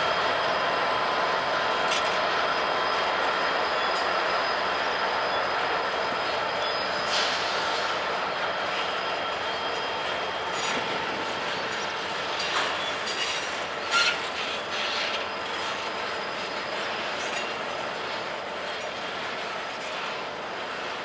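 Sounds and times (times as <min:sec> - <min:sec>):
steel wheels rushing on rail: 0:00.0 - 0:21.0
thin wheel squeals: 0:02.4 - 0:20.2.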